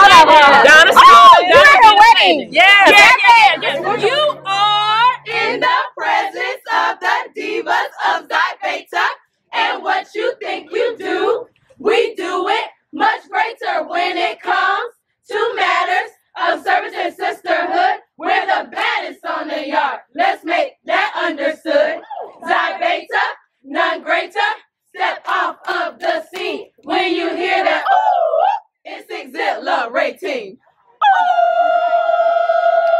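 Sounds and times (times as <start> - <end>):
women chanting in unison: 0.0 - 32.9.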